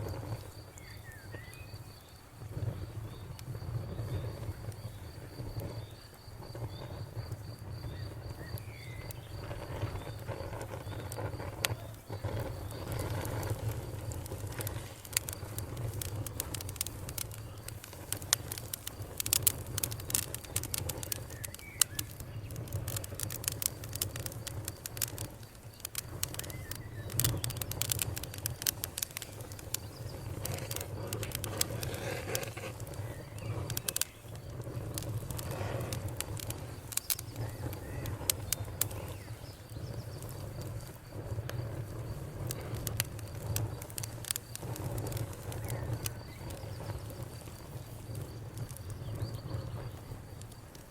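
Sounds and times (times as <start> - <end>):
campfire crackling and popping: 0.0 - 50.9
birds calling faintly: 0.1 - 50.9.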